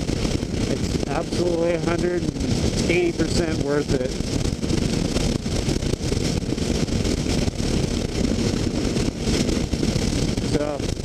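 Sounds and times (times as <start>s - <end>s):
wind and road noise: 0.0s - 11.0s
wind buffeting microphone: 0.0s - 11.0s.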